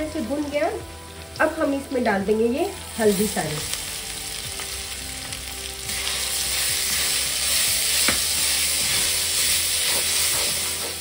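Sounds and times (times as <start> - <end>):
turmeric sizzling in hot oil: 0.0 - 11.0.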